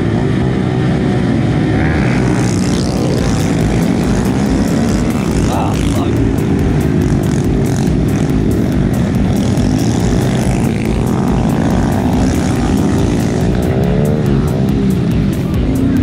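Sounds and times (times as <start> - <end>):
small motorcycle engines revving: 0.0 - 16.0.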